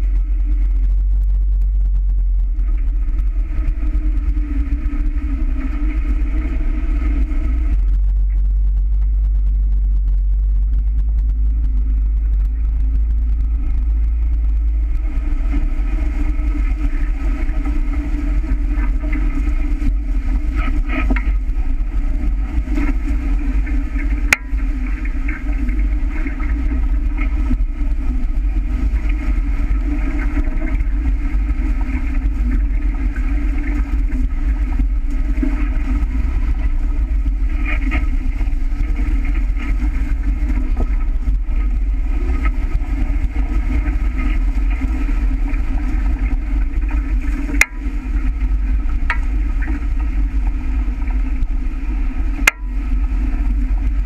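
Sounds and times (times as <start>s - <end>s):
heavy low rumble: 0.0s - 54.0s
water rushing along hull: 0.0s - 54.0s
wind buffeting microphone: 0.0s - 54.0s.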